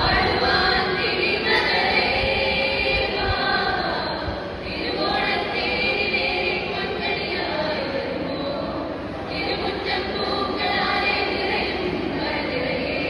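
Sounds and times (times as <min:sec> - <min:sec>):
group singing through microphones: 0:00.0 - 0:13.0.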